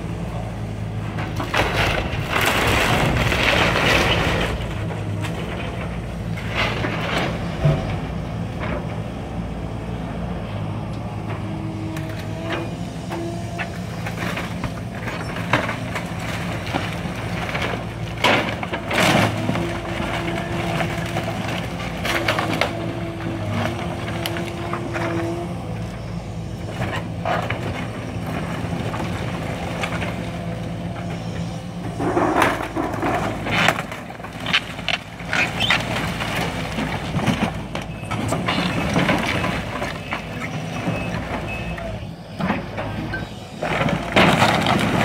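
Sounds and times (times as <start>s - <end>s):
demolition machine engine running: 0.0s - 45.0s
wood cracking and crashing: 1.0s - 8.8s, 13.7s - 25.4s, 26.7s - 31.1s, 31.9s - 42.9s, 43.6s - 45.0s.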